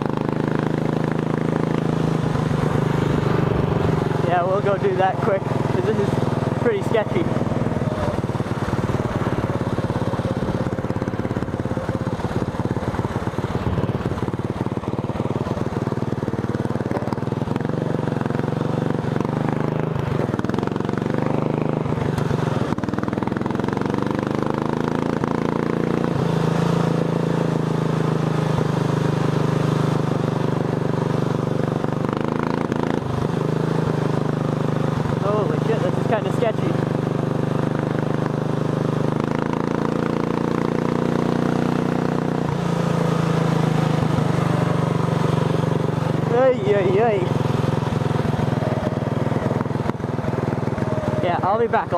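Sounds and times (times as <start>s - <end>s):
lawn tractor engine running: 0.0s - 51.9s.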